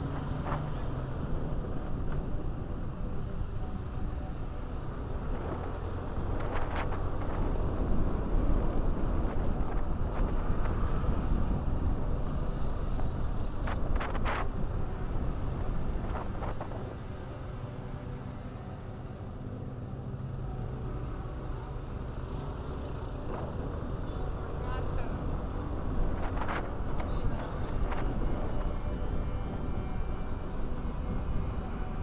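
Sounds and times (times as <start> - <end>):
wind rumble on microphone: 0.0 - 18.1, 23.1 - 32.0.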